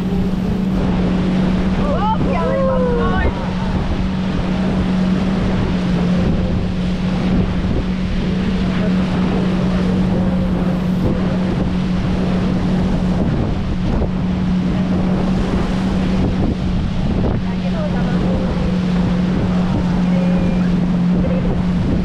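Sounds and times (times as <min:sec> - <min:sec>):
motorboat engine humming: 0:00.0 - 0:22.0
water rushing: 0:00.0 - 0:22.0
wind buffeting microphone: 0:00.0 - 0:22.0.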